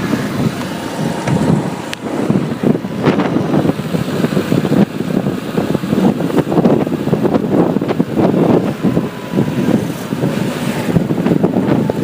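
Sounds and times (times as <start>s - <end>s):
road and traffic rumble: 0.0s - 12.0s
wind buffeting microphone: 0.0s - 12.0s.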